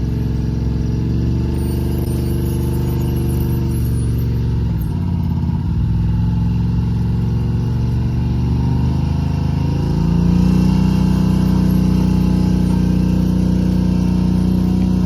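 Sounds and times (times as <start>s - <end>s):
vehicle engine running and revving: 0.0s - 15.0s.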